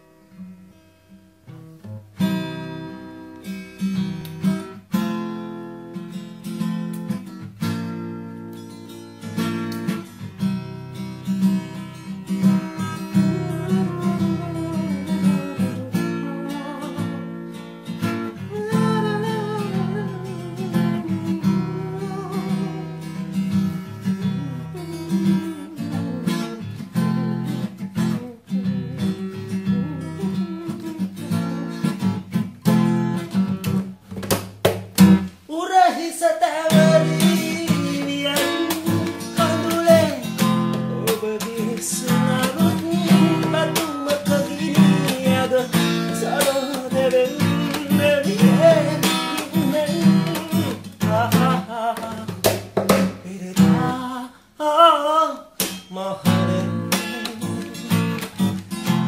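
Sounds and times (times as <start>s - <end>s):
acoustic guitar chords: 0.0s - 59.0s.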